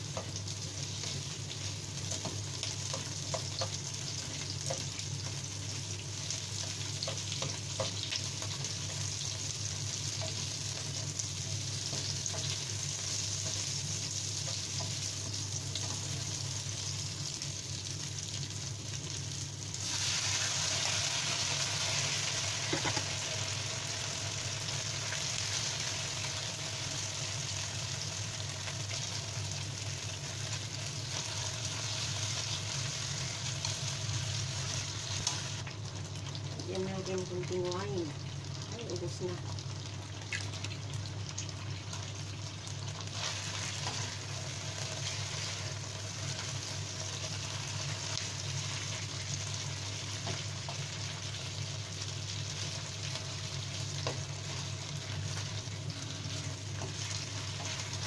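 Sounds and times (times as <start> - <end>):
onions sizzling in hot oil: 0.0 - 58.0.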